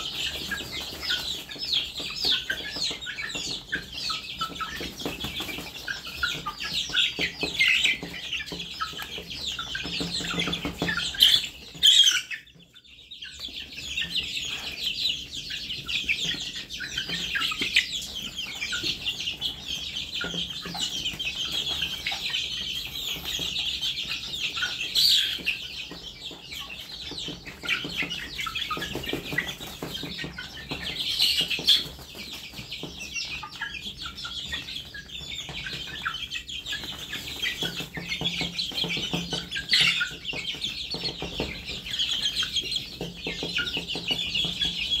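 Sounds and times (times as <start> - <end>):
chicks cheeping: 0.0 - 45.0.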